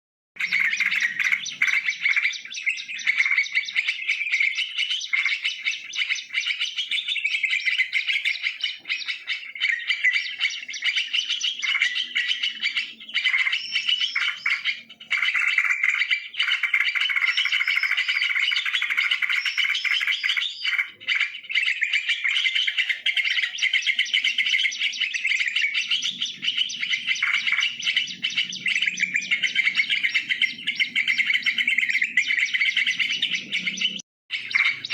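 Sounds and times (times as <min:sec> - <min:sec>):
bulbuls calling and chattering: 0:00.4 - 0:34.9.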